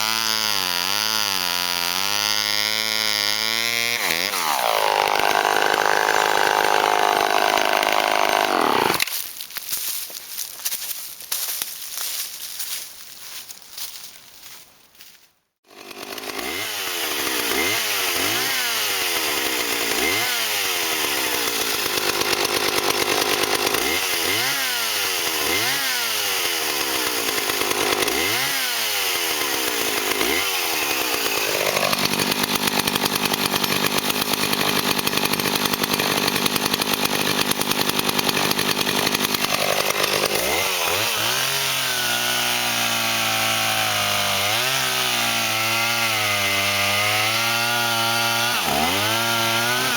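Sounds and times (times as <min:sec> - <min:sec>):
chainsaw revving: 0:00.0 - 0:09.1, 0:15.6 - 0:49.9.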